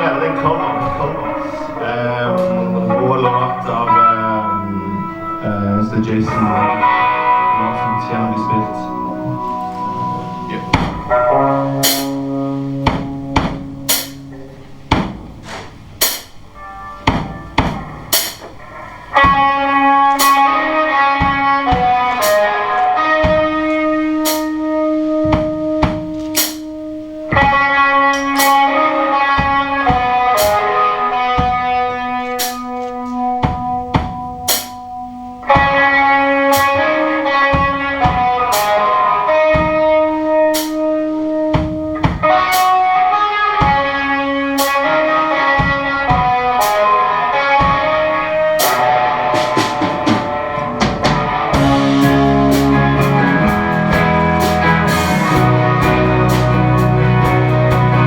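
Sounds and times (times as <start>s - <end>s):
drum beat: 0.0s - 24.5s, 25.2s - 31.7s, 33.4s - 40.8s, 41.4s - 42.9s, 44.6s - 58.0s
electric guitar chords: 0.0s - 58.0s
rock band playing: 0.0s - 58.0s.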